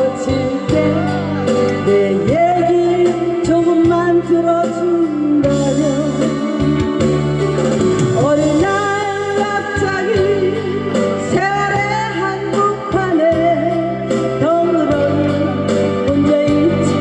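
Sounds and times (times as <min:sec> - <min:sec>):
instrumental backing track: 0:00.0 - 0:17.0
woman singing into microphone: 0:00.0 - 0:17.0.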